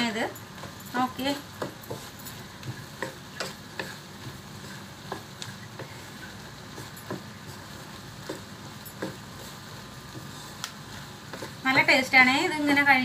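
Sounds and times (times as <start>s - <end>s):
wooden spatula scraping pan: 0.5s - 12.7s.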